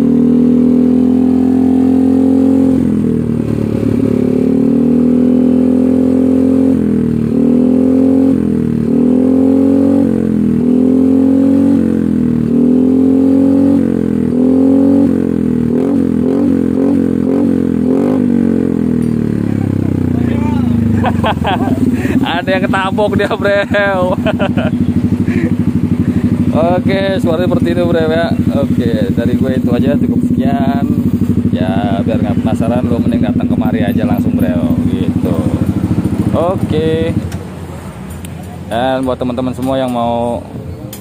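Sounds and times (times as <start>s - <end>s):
scooter engine revving: 0.0s - 41.0s.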